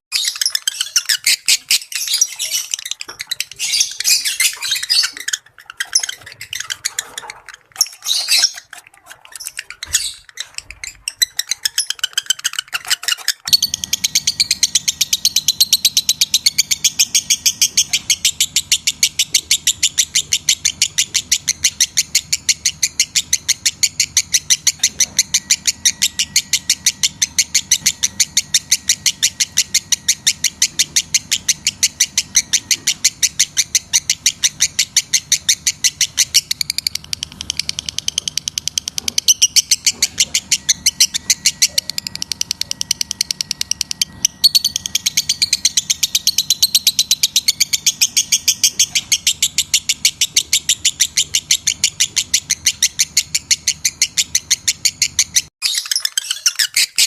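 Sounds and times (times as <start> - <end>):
lovebird chirping: 0.1 - 57.0.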